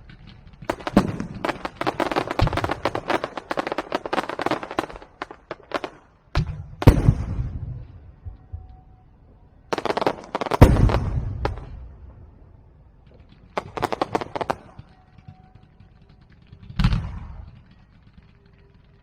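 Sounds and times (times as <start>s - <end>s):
fireworks bursting with echo: 0.0s - 19.0s.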